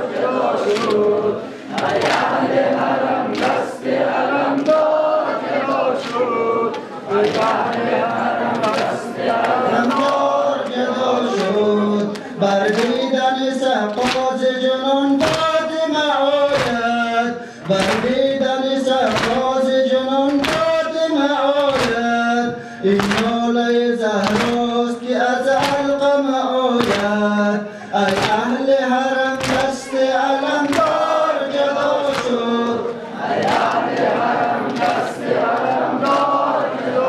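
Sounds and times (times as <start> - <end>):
mourning lament chanted: 0.0 - 37.0.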